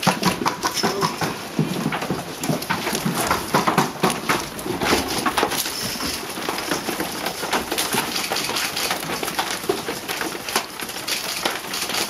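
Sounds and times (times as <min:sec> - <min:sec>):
goat hooves clattering on floor: 0:00.0 - 0:12.0.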